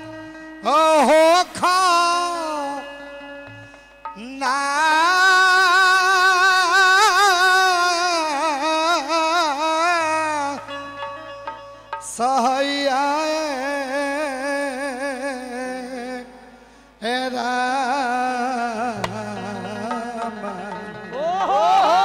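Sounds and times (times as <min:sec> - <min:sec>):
man singing folk song: 0:00.0 - 0:03.3, 0:04.1 - 0:11.1, 0:12.0 - 0:22.0.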